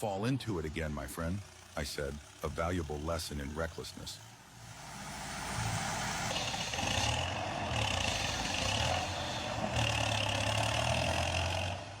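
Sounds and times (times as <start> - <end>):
tractor engine humming: 0.0 - 12.0.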